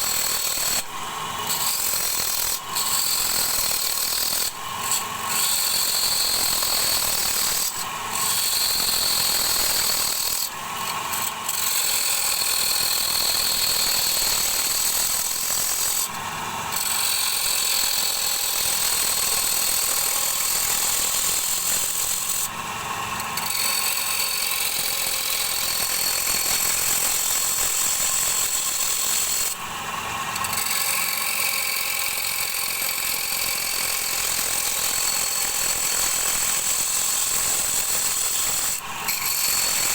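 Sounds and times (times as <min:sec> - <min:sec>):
lathe running hum: 0:00.2 - 0:34.4, 0:38.8 - 0:39.9.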